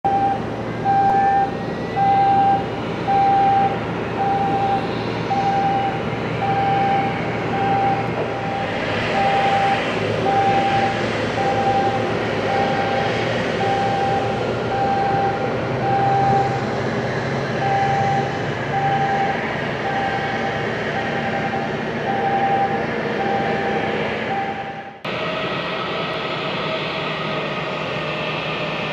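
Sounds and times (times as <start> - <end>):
jet engines idling: 0.0 - 28.9
electronic warning beeper: 0.1 - 16.6, 17.6 - 25.0.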